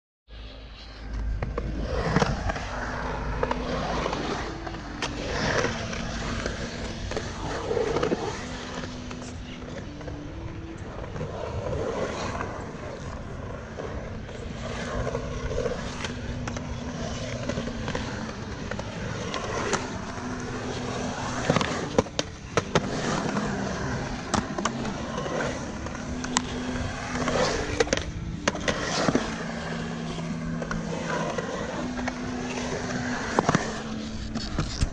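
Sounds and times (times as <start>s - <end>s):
skateboard wheels rolling on concrete: 0.3s - 34.9s
skateboard clacks: 1.1s - 34.9s.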